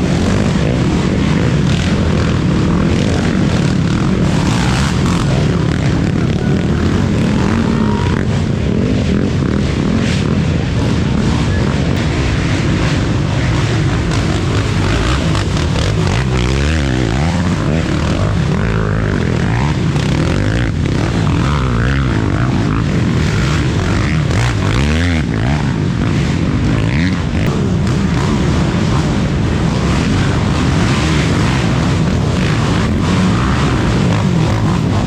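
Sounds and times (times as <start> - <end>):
racing atv engines droning: 0.0 - 35.0.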